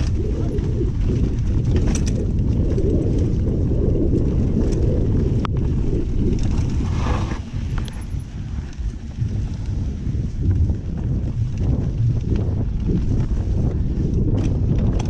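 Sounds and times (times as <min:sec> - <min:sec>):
bike tyres rumbling on dirt: 0:00.0 - 0:15.0
wind buffeting microphone: 0:00.0 - 0:15.0.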